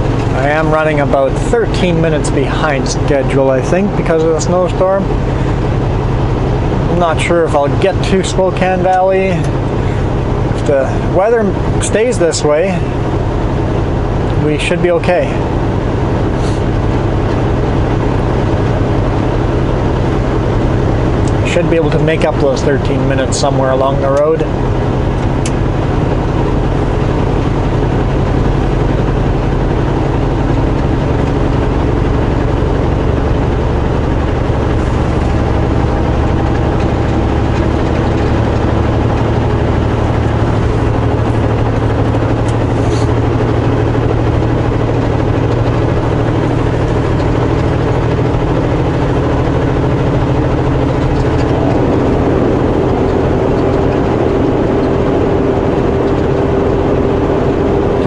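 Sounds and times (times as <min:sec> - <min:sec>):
road noise: 0:00.0 - 0:58.0
truck diesel engine droning: 0:00.0 - 0:58.0.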